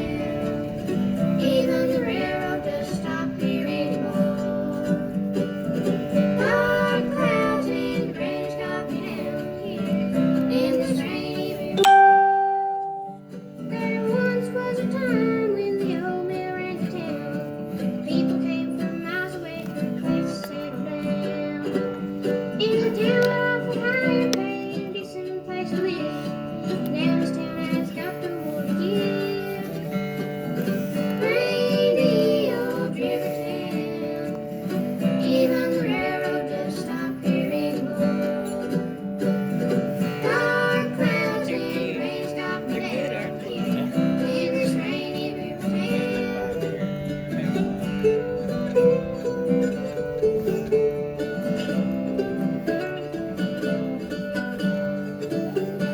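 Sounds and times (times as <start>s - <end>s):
live bluegrass band playing: 0.0s - 55.9s.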